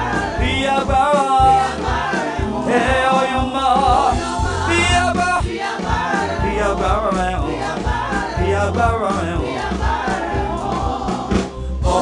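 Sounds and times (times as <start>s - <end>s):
band accompaniment: 0.0s - 12.0s
voices singing gospel song: 0.0s - 12.0s.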